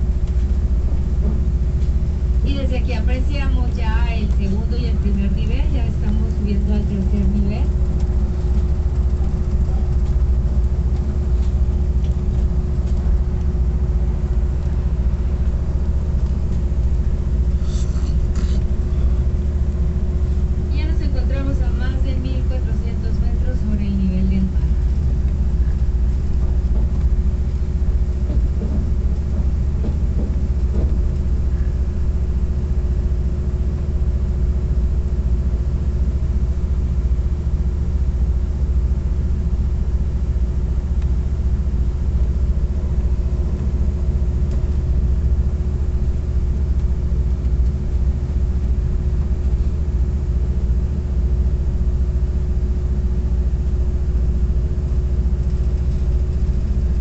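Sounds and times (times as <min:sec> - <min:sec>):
constant hum: 0:00.0 - 0:57.0
train rumbling on track: 0:00.0 - 0:57.0.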